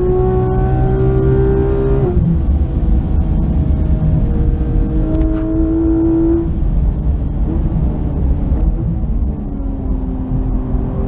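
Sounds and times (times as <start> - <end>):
car engine accelerating: 0.0 - 11.0
road and wind rumble: 0.0 - 11.0.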